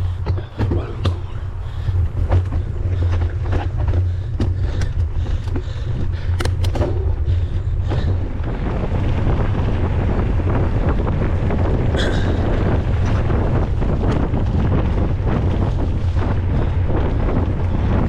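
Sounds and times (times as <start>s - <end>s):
bike clicks and rattles: 0.0s - 18.0s
wind buffeting microphone: 0.0s - 18.0s.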